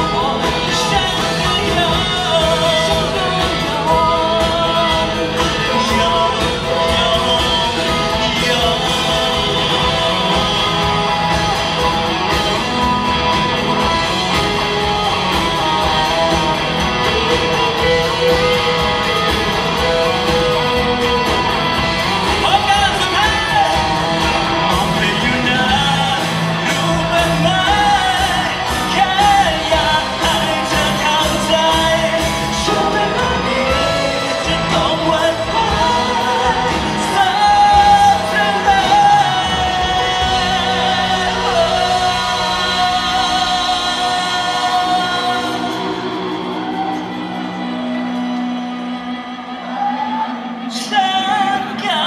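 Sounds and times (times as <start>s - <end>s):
steady drumbeat: 0.0s - 48.4s
lead vocal singing: 0.0s - 52.0s
live pop band playing: 0.0s - 52.0s.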